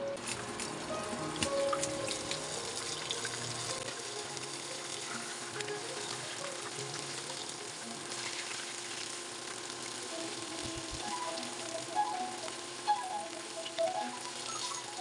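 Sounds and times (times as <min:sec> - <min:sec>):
deep-frying sizzle and crackle: 0:00.0 - 0:15.0.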